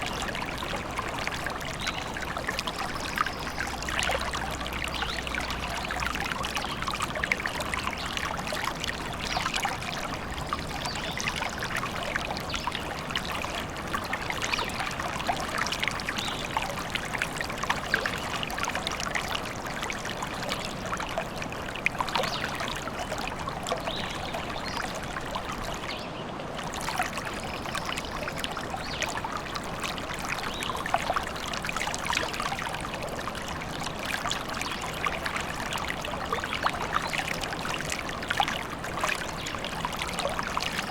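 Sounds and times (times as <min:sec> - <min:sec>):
small stream babbling: 0:00.0 - 0:40.9.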